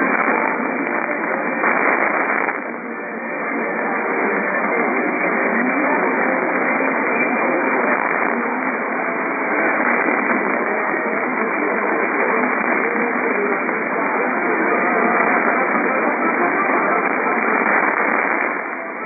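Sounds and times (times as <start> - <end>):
faint broadcast audio: 0.0 - 19.0
radio static hiss: 0.0 - 19.0.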